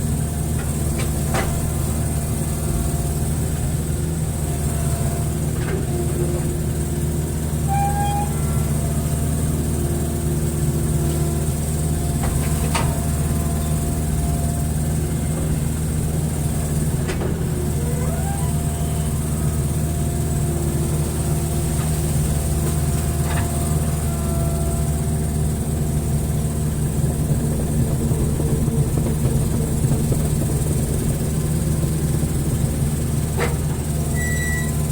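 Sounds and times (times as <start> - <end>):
excavator diesel engine running: 0.0 - 34.9
hydraulic whine: 0.0 - 34.9.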